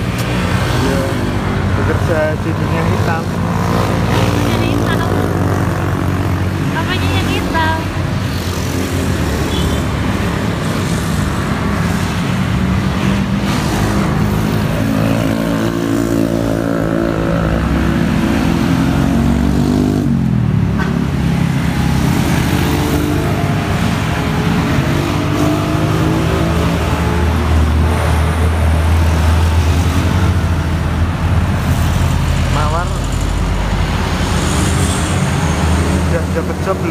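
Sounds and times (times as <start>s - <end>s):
cars and motorcycles passing: 0.0s - 36.9s.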